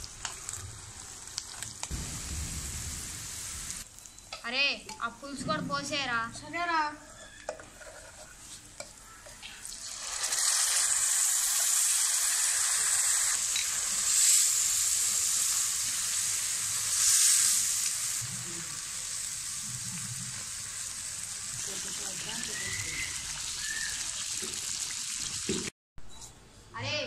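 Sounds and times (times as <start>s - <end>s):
liquid sizzling in hot oil: 0.0s - 4.3s, 8.0s - 25.7s.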